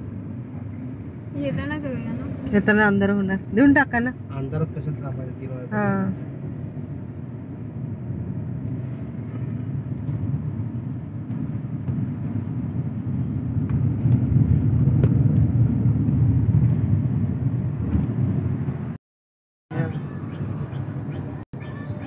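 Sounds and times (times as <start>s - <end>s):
car interior road noise: 0.0s - 19.0s, 19.7s - 22.0s.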